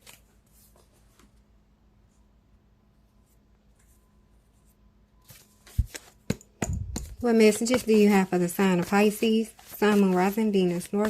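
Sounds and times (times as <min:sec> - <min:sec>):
faint room hum: 0:00.0 - 0:11.0.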